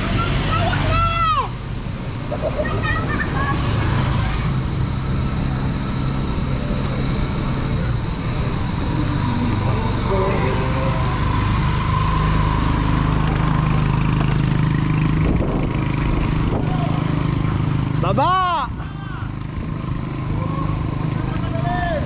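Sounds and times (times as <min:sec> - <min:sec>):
motor engine running: 0:01.6 - 0:22.0.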